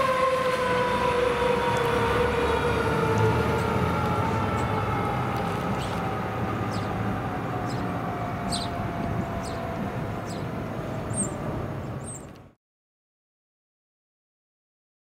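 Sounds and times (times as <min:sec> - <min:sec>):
fire truck siren: 0:00.0 - 0:12.6
traffic: 0:00.0 - 0:12.6
truck engine rumble: 0:00.0 - 0:12.6.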